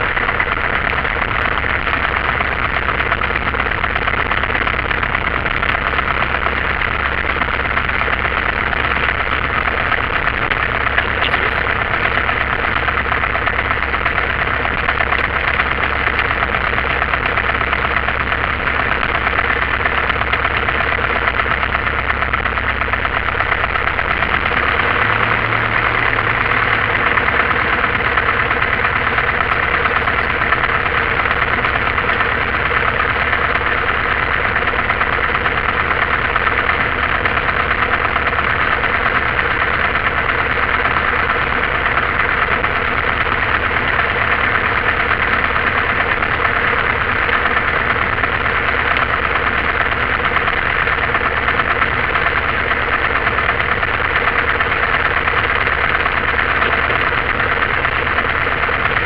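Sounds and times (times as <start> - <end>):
light aircraft engine idling: 0.0 - 59.0.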